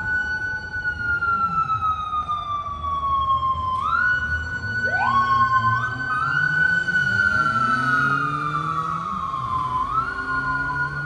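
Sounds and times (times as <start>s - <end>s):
police sirens wailing: 0.0s - 11.0s.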